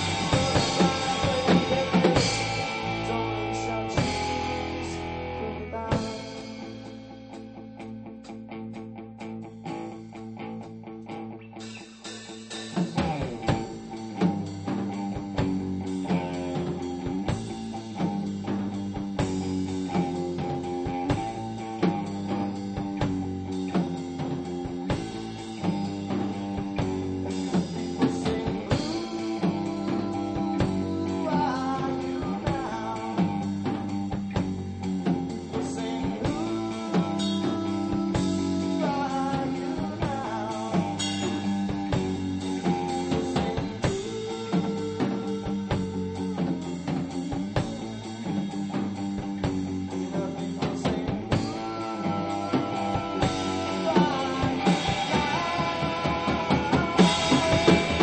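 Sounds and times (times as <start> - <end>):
electric guitar playing: 0.0 - 58.0
rock band playing: 0.0 - 58.0.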